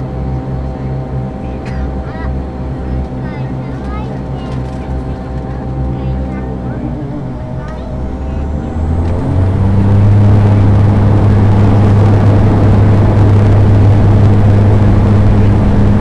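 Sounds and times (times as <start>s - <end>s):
propeller engine hum: 0.0s - 16.0s.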